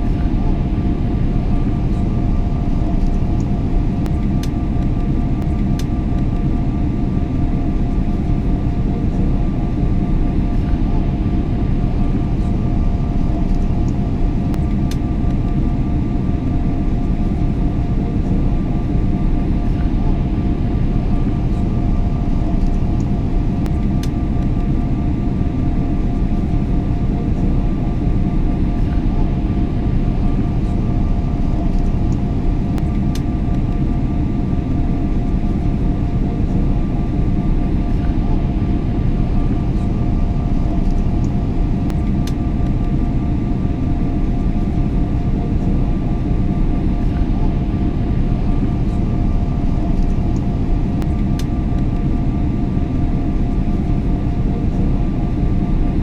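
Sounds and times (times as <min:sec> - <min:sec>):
airliner cabin rumble: 0:00.0 - 0:56.0
steady hums: 0:00.0 - 0:56.0.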